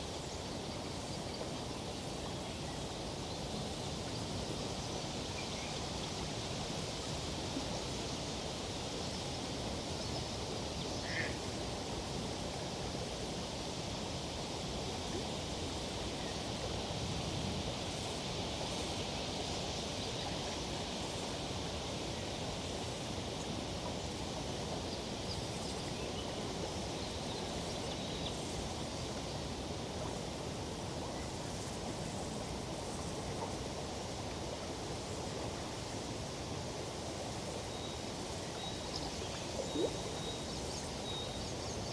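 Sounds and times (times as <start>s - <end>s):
flowing river: 0.0s - 41.9s.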